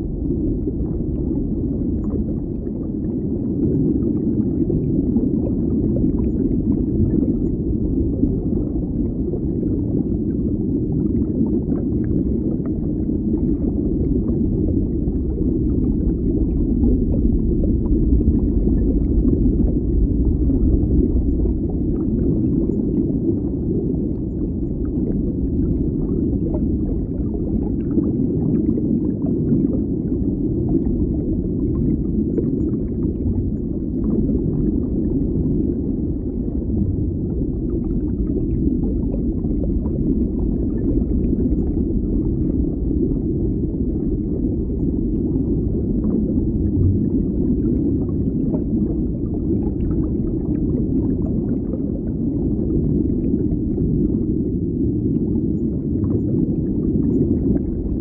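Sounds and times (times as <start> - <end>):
muffled underwater bubbling: 0.0 - 58.0.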